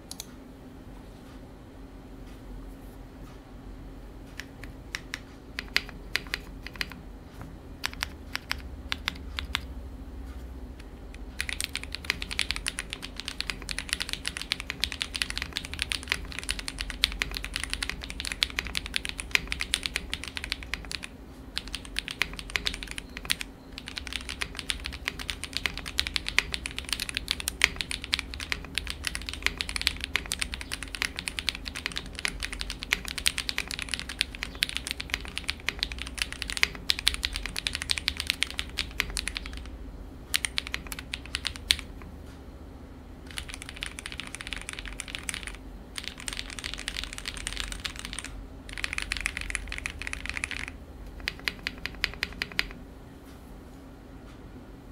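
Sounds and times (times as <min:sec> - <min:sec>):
mechanical keyboard typing: 0:04.4 - 0:07.0, 0:07.8 - 0:09.7, 0:11.2 - 0:39.7, 0:40.3 - 0:42.1, 0:43.3 - 0:52.8.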